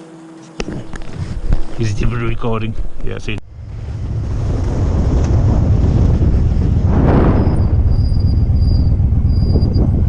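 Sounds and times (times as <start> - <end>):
wind rumble on microphone: 0.6 - 10.0.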